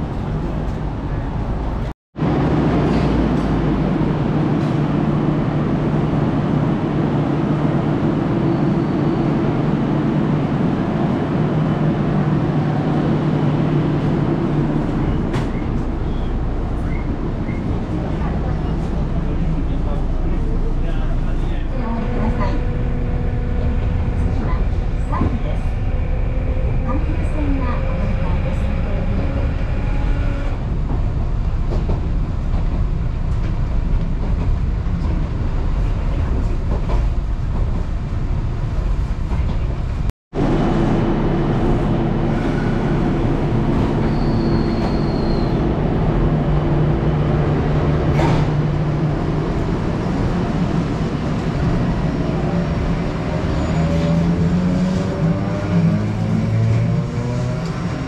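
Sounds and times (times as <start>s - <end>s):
electrical hum of standing tram: 0.0s - 58.0s
tram running rumble: 0.0s - 58.0s.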